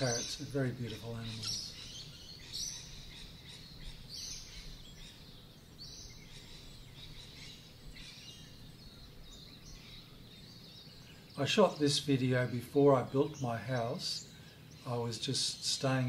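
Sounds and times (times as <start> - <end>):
birds chirping faintly: 0.0 - 16.0
high bird calls: 0.0 - 16.0.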